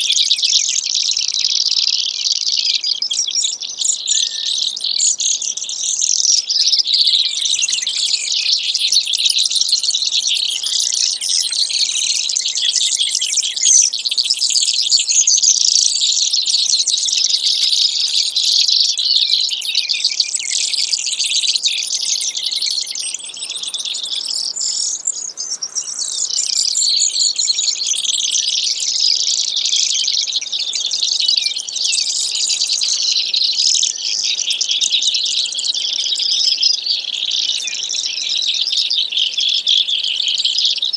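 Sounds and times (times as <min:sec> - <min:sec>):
sparrow trilling song: 0:00.0 - 0:40.9.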